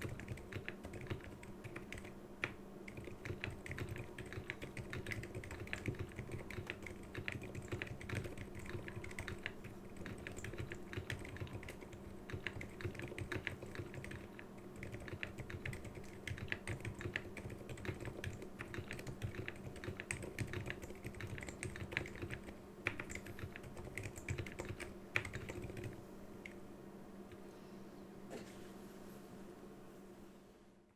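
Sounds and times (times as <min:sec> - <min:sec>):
keyboard typing: 0:00.0 - 0:26.6
computer fan humming: 0:00.0 - 0:30.9.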